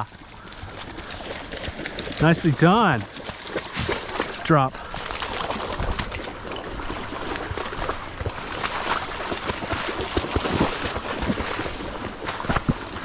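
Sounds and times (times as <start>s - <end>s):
shallow water sloshing: 0.1s - 13.0s.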